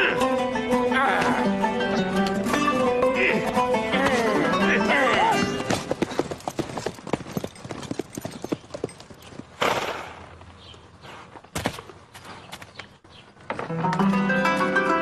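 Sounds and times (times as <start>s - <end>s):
horse hooves clattering on hard ground: 1.2s - 14.0s.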